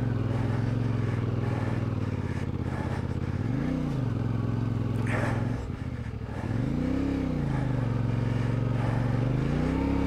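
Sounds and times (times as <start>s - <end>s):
motorcycle engine running under load: 0.0s - 10.0s.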